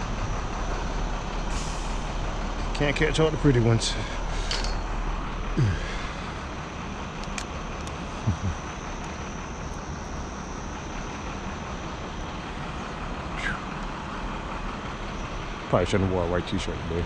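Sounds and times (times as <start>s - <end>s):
distant urban rumble: 0.0s - 17.0s.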